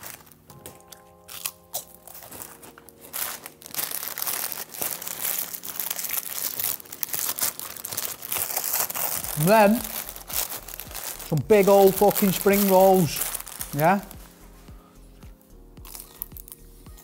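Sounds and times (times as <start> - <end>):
paper wrapper crumpling and tearing: 0.0 - 14.6, 15.8 - 16.7.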